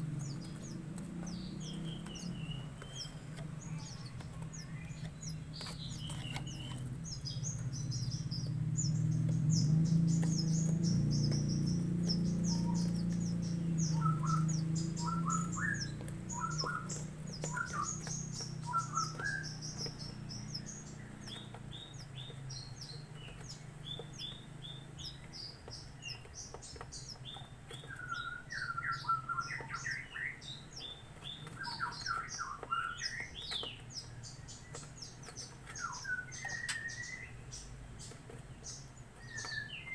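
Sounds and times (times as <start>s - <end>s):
low rough bird calls: 0.0s - 39.9s
low steady hum: 0.0s - 39.9s
young birds chirping: 0.0s - 39.9s.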